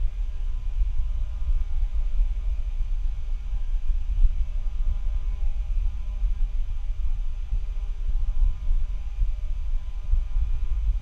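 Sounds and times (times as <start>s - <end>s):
faint steady tones: 0.0s - 11.0s.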